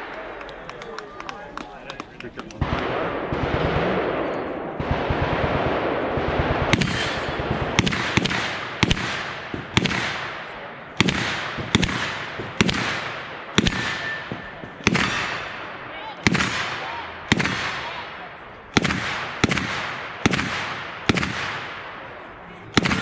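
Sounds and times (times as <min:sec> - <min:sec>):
automatic gunfire: 0:02.6 - 0:22.0, 0:22.7 - 0:23.0
loud single gunshots echoing: 0:02.6 - 0:22.1, 0:22.7 - 0:23.0.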